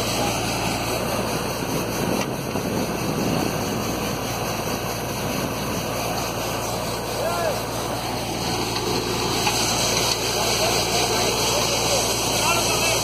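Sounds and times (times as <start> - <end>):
drilling rig blowing water: 0.0 - 13.0.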